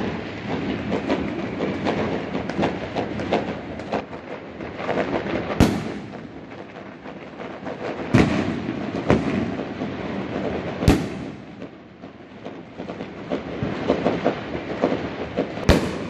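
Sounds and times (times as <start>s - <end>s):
crackle of firework pops: 0.0s - 16.0s
loud firework bangs: 0.0s - 16.0s.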